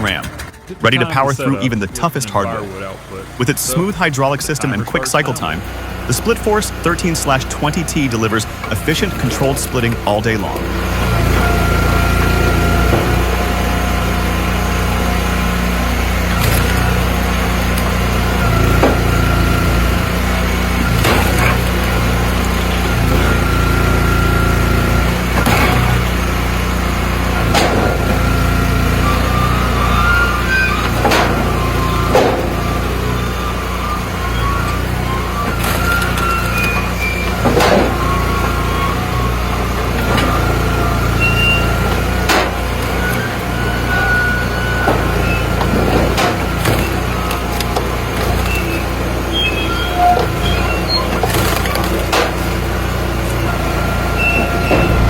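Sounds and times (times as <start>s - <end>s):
log splitter engine running: 0.0s - 55.0s
wood squeaking: 2.9s - 55.0s.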